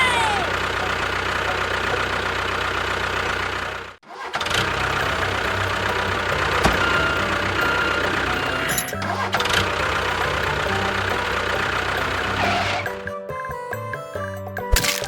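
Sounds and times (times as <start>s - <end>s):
engine running: 0.0s - 13.2s.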